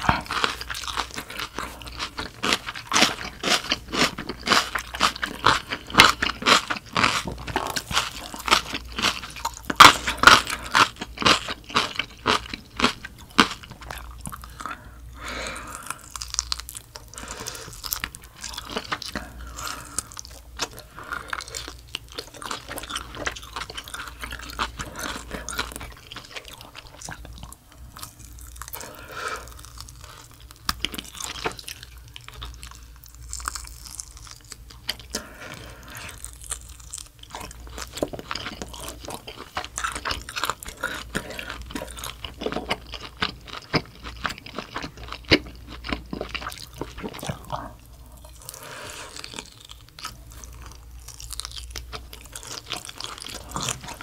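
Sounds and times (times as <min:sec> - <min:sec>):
chewing crunchy food: 0:00.0 - 0:54.0.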